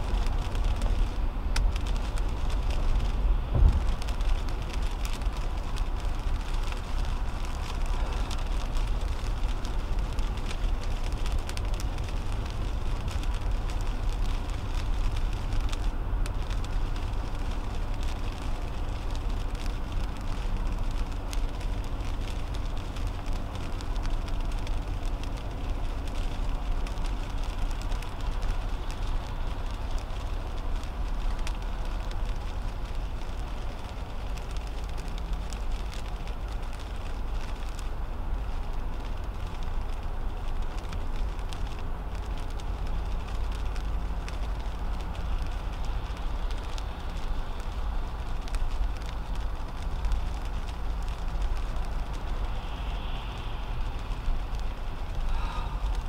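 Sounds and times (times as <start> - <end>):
raindrops ticking on windshield: 0.0 - 56.0
tyres rumbling on wet pavement: 0.0 - 56.0.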